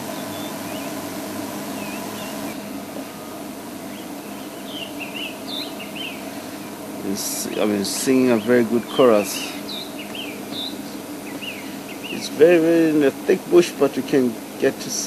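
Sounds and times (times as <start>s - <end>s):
small songbirds chirping: 0.0s - 1.0s, 1.7s - 14.1s
low hum and hiss: 0.0s - 15.0s.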